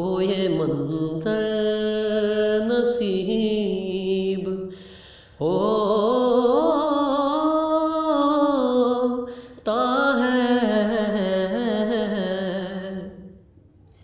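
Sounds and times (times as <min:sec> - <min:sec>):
man singing unaccompanied: 0:00.0 - 0:04.8, 0:05.4 - 0:13.3.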